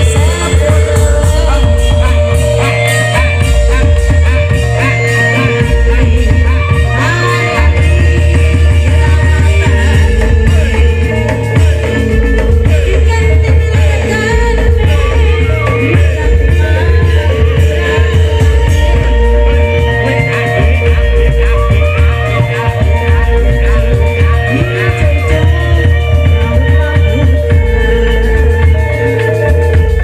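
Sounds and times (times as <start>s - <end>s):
amplified music with heavy bass: 0.0s - 30.0s
person singing: 0.0s - 30.0s.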